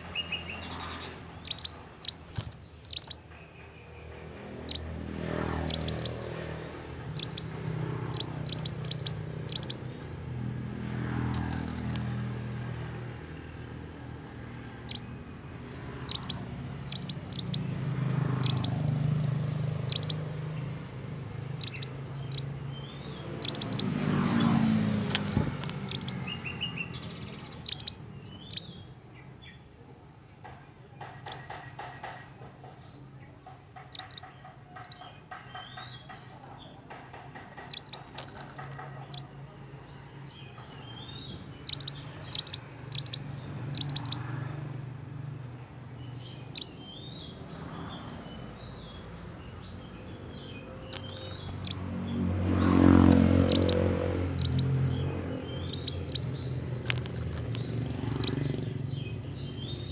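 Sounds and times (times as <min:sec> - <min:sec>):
bird chirping: 0:00.0 - 0:29.7, 0:30.7 - 0:59.9
passing vehicle: 0:00.0 - 0:59.9.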